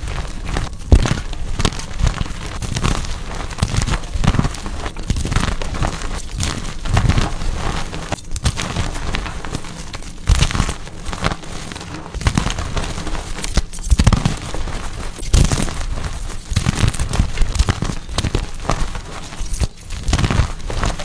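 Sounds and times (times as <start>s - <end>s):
chalk blocks crunching: 0.0s - 21.0s.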